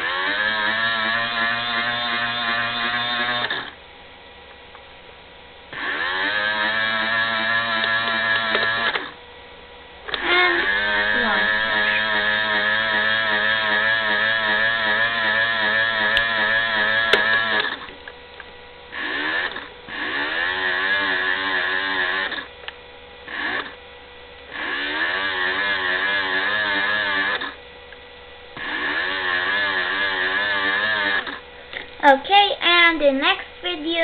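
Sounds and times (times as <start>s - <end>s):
toy washing machine motor whine: 0.0s - 3.8s, 5.7s - 9.2s, 10.1s - 18.0s, 18.8s - 34.0s.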